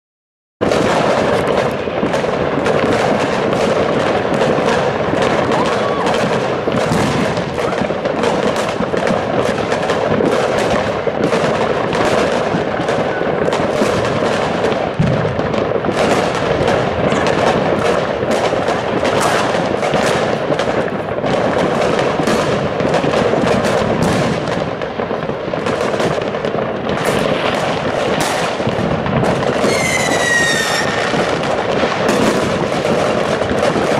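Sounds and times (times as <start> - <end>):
fireworks and firecrackers banging: 0.6 - 33.9.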